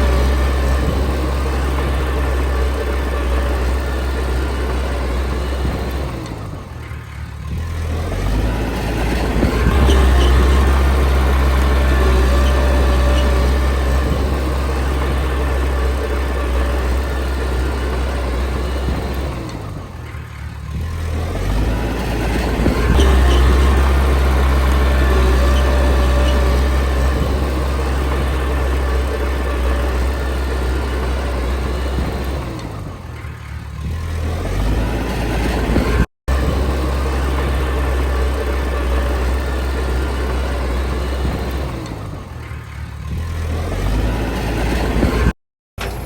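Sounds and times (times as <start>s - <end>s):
bulldozer diesel engine running: 0.0s - 46.0s.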